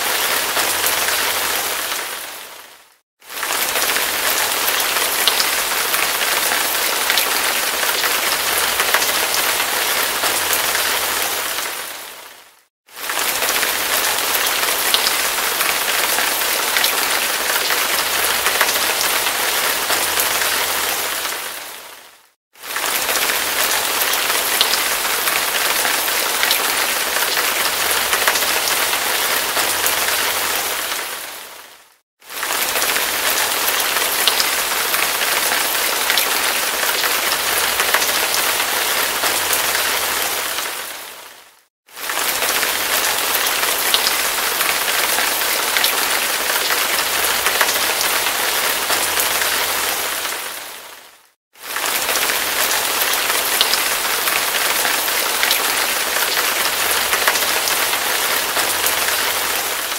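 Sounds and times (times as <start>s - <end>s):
hard rain falling: 0.0s - 59.9s.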